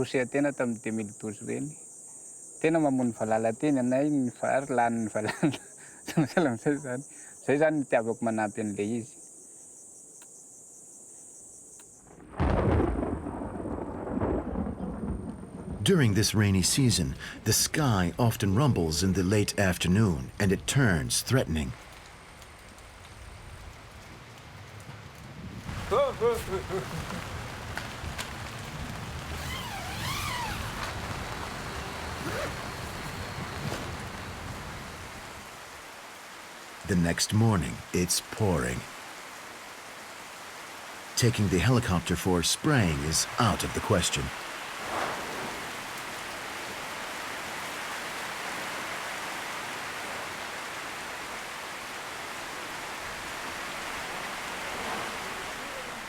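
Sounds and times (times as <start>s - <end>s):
rain: 0.0s - 9.3s, 11.5s - 56.0s
wind: 0.0s - 56.0s.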